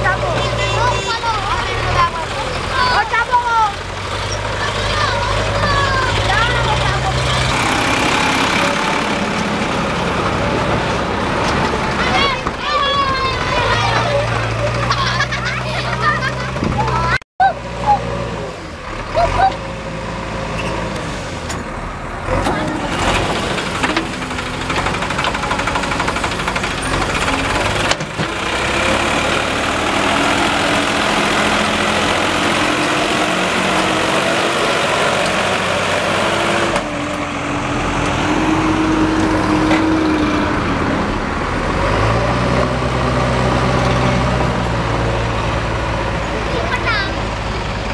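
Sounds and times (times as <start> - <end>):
backhoe loader engine: 0.0 - 47.9
tractor diesel engine under load: 0.0 - 47.9.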